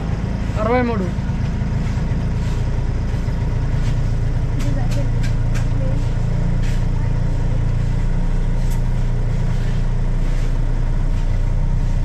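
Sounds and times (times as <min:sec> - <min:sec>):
auto-rickshaw engine idling: 0:00.0 - 0:12.0.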